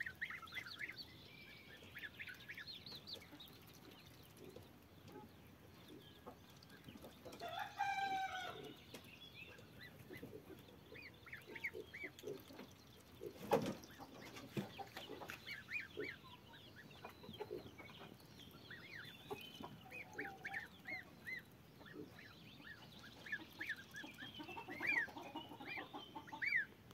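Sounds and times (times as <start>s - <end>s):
goslings peeping: 0.0s - 26.8s.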